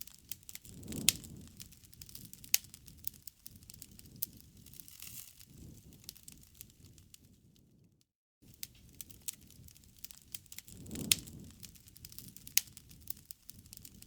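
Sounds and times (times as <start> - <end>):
campfire crackling and popping: 0.0 - 14.0
low rush of flame: 0.0 - 14.0.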